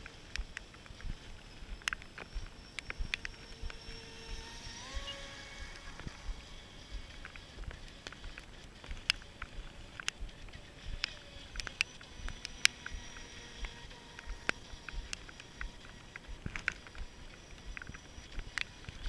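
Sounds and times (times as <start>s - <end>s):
high-pitched electric motor whine: 0.0s - 19.0s
sharp ticks: 0.0s - 19.0s.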